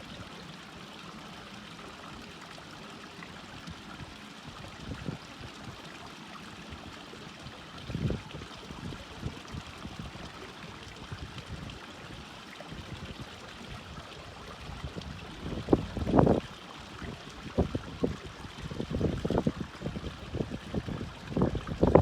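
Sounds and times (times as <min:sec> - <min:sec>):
stream running: 0:00.0 - 0:22.0.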